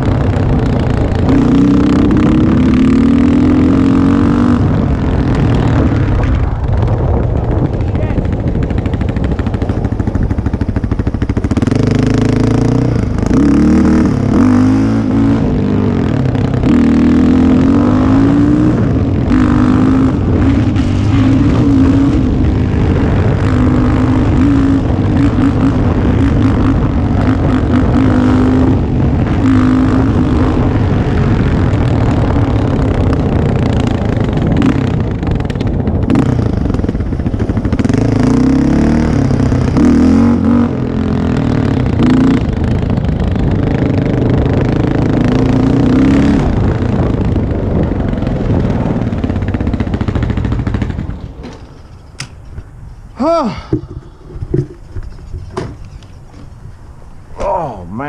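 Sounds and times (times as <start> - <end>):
quad bike engine accelerating: 0.0 - 52.6, 53.2 - 56.6.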